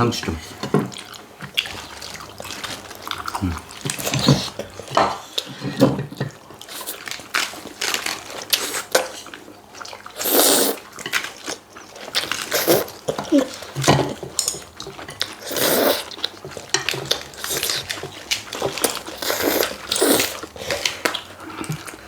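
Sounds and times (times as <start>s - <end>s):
wet chewing: 0.0s - 22.0s.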